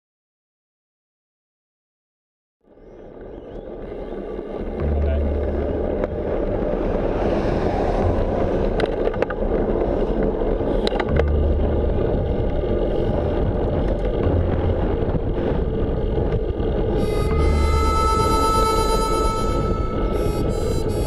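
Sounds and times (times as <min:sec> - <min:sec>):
bicycle tyres rumbling on road: 0:02.7 - 0:21.0
wind buffeting: 0:02.7 - 0:21.0
music: 0:03.2 - 0:21.0.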